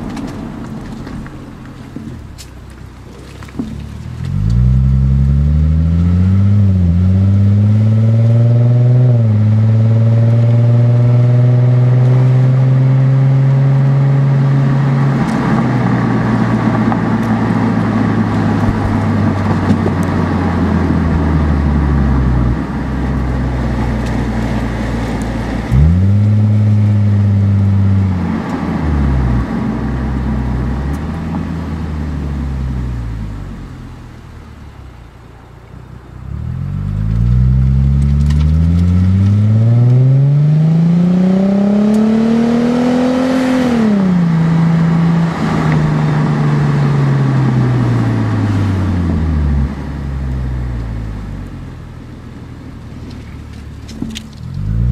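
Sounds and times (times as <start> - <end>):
car exhaust revving while driving: 0.0 - 35.0, 36.1 - 54.9.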